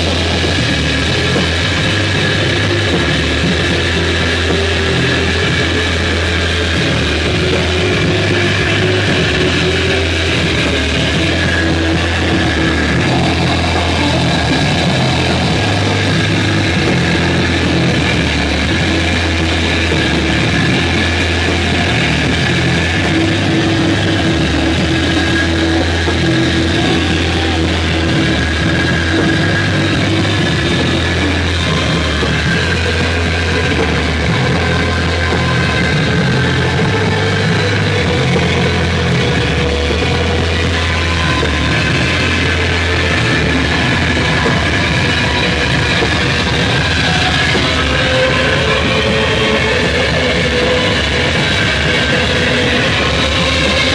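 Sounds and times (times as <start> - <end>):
distorted electric guitar: 0.0 - 53.9
drums: 0.0 - 53.9
sustained low notes: 0.0 - 53.9.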